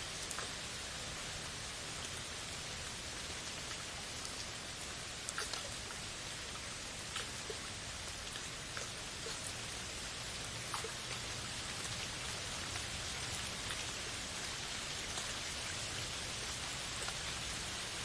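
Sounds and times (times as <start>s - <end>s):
rain on foliage: 0.0s - 18.0s.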